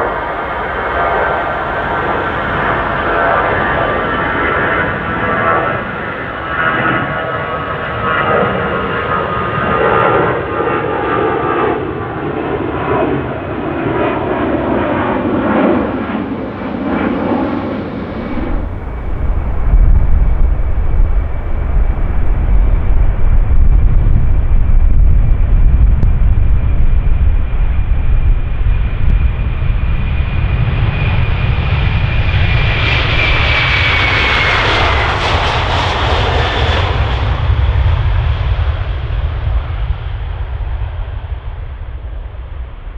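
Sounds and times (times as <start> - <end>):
jet engines whining: 0.0 - 36.8
deep jet engine rumble: 0.0 - 42.9.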